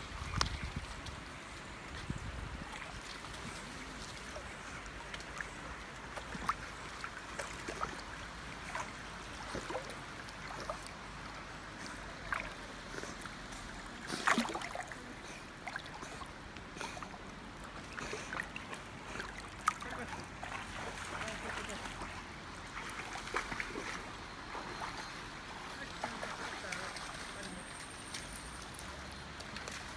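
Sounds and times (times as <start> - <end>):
running water: 0.0 - 29.9.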